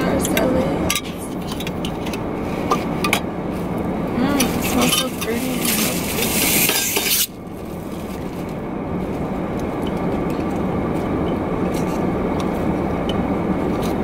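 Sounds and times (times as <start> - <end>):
car cabin rumble: 0.0 - 6.4, 7.4 - 14.0.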